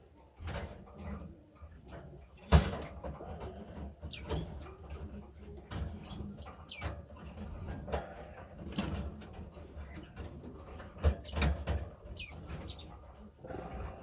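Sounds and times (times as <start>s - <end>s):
small cage birds calling: 0.0s - 14.0s.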